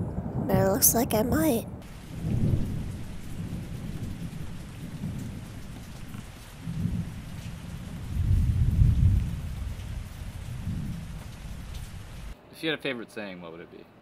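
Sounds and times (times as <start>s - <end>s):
low rolling thunder: 0.0s - 12.4s
steady rain: 0.0s - 12.4s.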